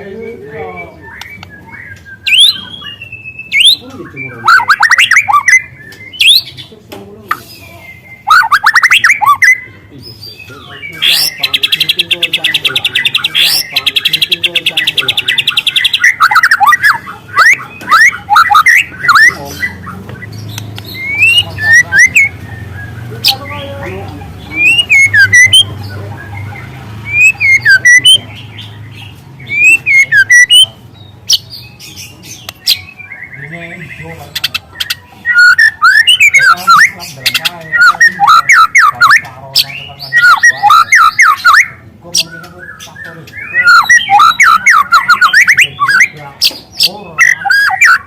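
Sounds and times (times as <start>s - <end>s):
bird chirps and whistles: 0.9s - 6.5s, 7.3s - 9.7s, 10.8s - 23.4s, 24.5s - 25.7s, 26.3s - 28.7s, 29.4s - 31.7s, 32.3s - 48.0s.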